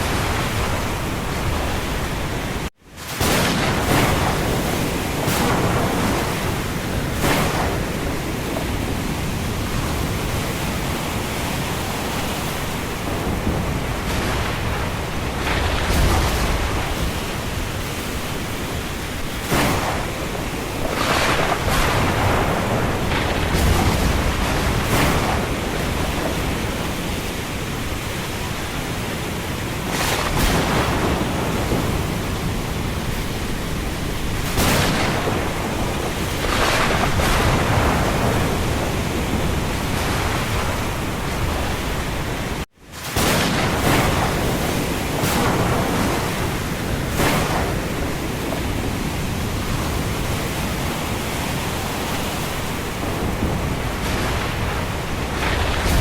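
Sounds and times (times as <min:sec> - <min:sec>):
rain: 0:00.0 - 0:56.0
wind: 0:00.0 - 0:56.0.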